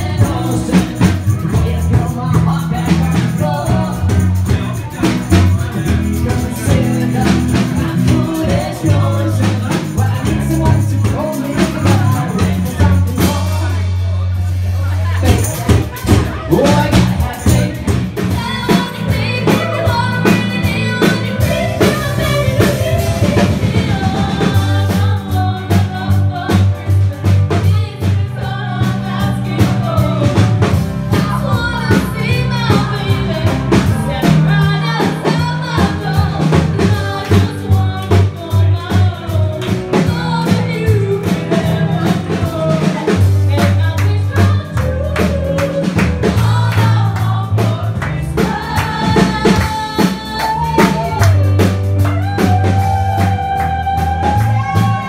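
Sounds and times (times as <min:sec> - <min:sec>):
person singing: 0:00.0 - 0:14.2, 0:15.0 - 0:55.0
acoustic guitar: 0:00.0 - 0:55.0
bass guitar: 0:00.0 - 0:55.0
drums: 0:00.0 - 0:55.0.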